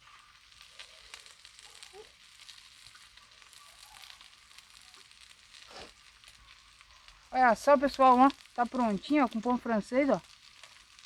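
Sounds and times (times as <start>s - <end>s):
food sizzling over fire: 0.0s - 11.0s.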